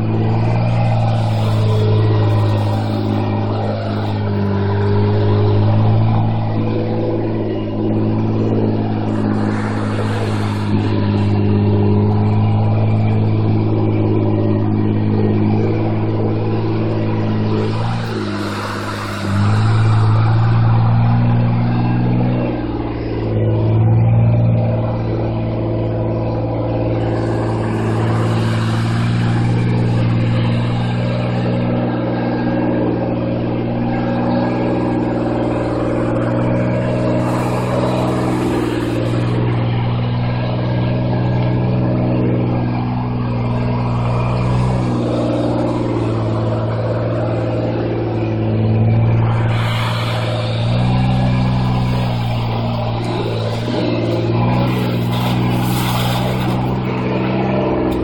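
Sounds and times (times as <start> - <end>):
car engine droning: 0.0 - 58.0.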